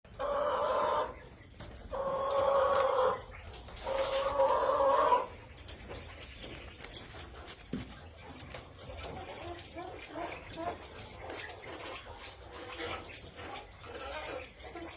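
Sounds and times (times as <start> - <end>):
chicken calling: 0.1 - 14.9.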